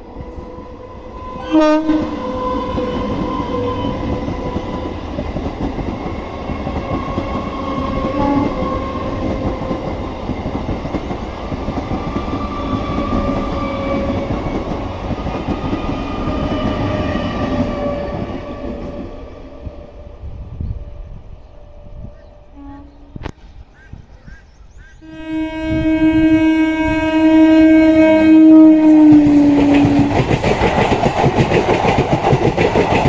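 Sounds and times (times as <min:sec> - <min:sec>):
train passing close by: 0:00.0 - 0:33.0.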